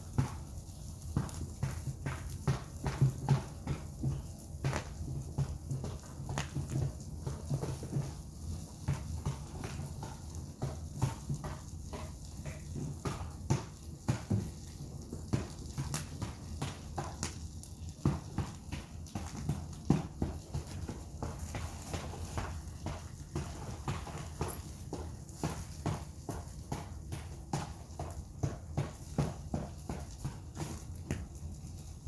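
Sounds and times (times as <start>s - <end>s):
bonfire crackling and popping: 0.0s - 32.0s.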